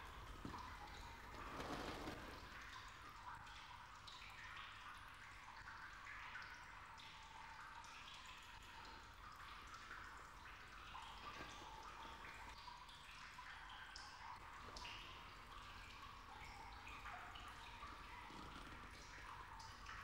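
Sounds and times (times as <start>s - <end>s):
water dripping: 0.0s - 20.0s.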